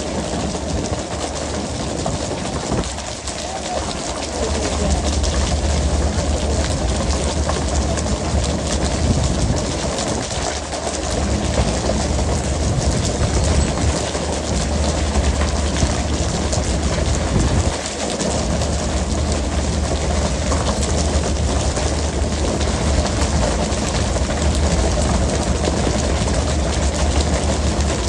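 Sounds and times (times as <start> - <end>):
boat engine rumbling: 0.0 - 28.0
water splashing along hull: 0.0 - 28.0.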